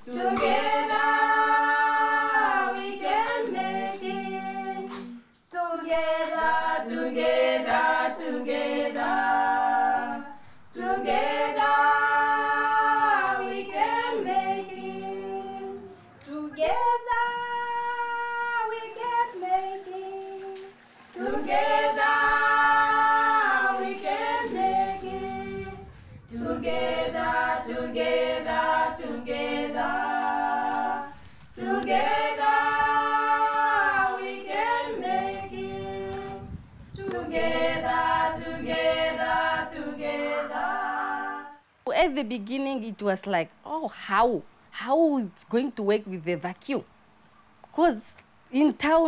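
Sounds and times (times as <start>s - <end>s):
a cappella choir singing in harmony: 0.0s - 41.8s.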